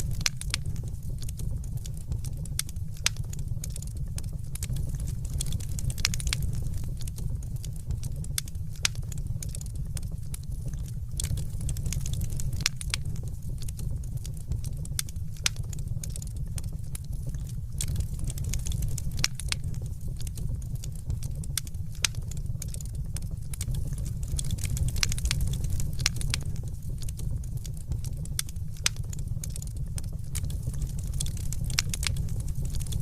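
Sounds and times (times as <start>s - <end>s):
fireplace fire crackling: 0.0s - 33.0s.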